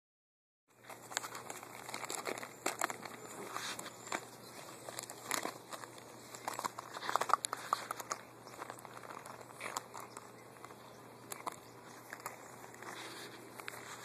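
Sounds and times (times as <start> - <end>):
dog food bag crinkling: 0.8 - 14.0.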